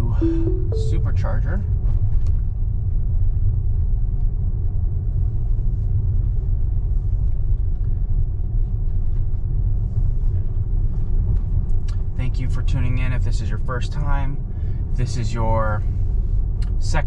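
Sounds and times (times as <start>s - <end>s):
road and tyre rumble in car: 2.0s - 17.0s.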